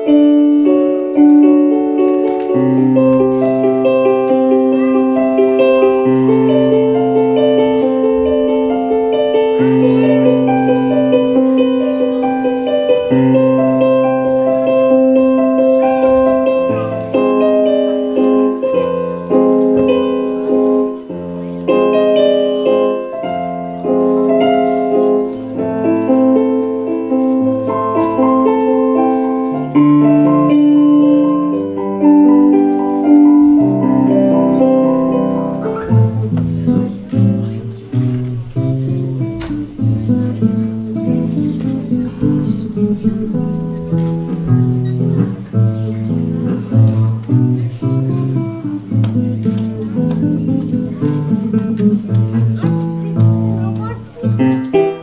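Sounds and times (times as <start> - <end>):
electronic keyboard piano melody: 0.0 - 55.0
plucked classical guitar: 0.0 - 55.0.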